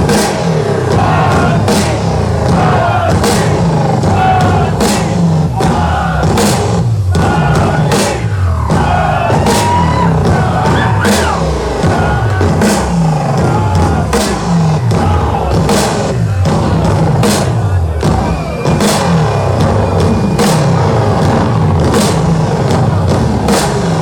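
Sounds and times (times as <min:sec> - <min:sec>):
bass line: 0:00.0 - 0:24.0
hard rock band playing live: 0:00.0 - 0:24.0.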